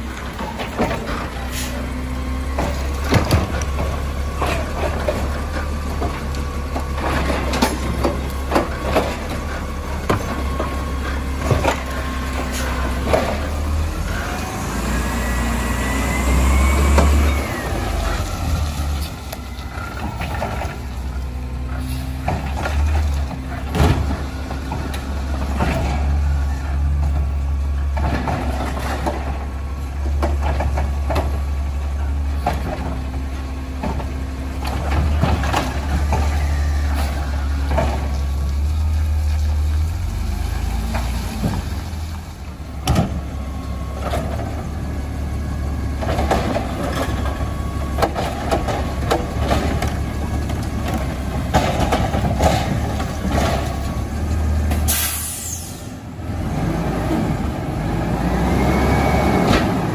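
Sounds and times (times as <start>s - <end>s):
garbage truck engine drone: 0.0s - 59.9s
hydraulics whining: 0.0s - 59.9s.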